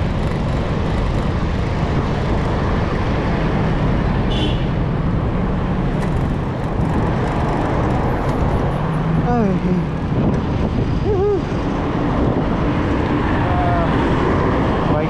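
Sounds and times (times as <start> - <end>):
road traffic: 0.0 - 15.0
wind rushing over microphone: 0.0 - 15.0.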